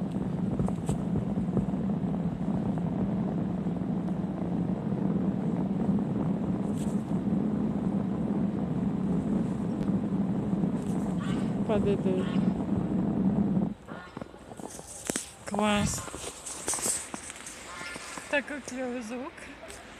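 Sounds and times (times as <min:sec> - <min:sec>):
crunchy snow creaking: 0:00.0 - 0:19.9.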